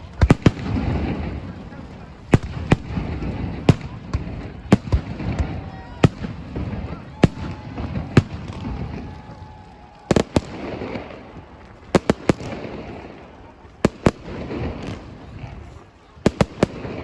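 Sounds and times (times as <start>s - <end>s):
crowd noise rumble: 0.0s - 17.0s
fireworks bangs: 0.0s - 17.0s.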